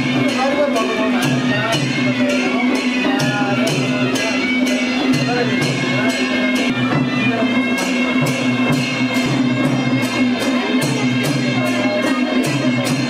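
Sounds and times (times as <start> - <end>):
sharp percussion strokes: 0.0 - 13.0.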